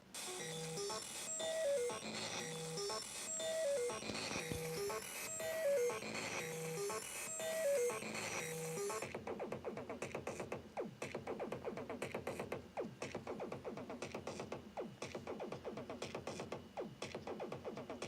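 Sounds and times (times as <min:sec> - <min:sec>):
drum machine electronic beat: 0:00.1 - 0:18.0.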